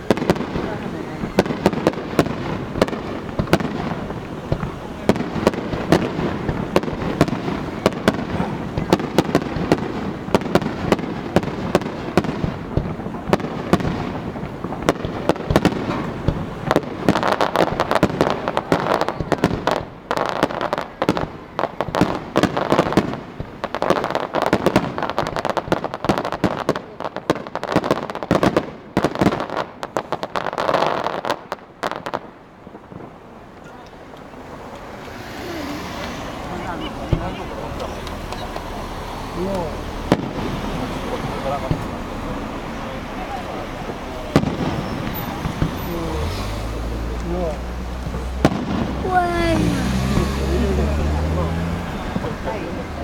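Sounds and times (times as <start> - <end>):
fireworks booms rumbling: 0.0 - 53.0
fireworks crackling and popping: 0.0 - 53.0.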